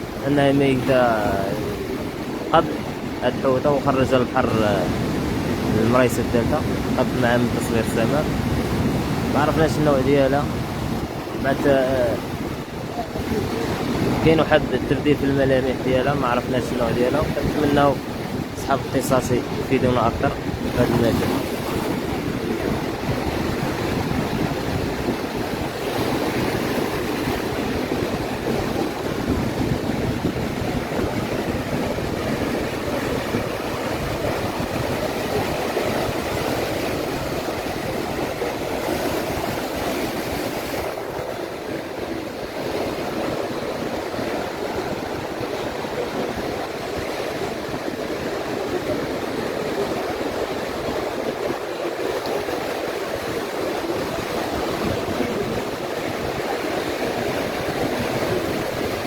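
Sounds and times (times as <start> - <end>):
surf waves washing up beach: 0.0 - 59.0.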